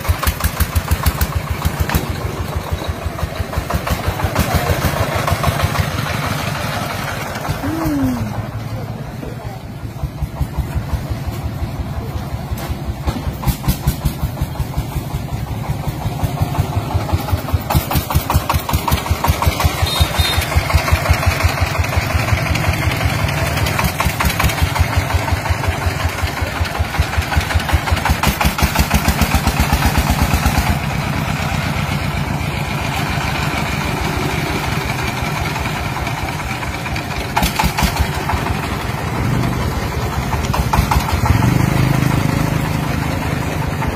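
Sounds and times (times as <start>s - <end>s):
diesel engine chugging: 0.0s - 43.9s.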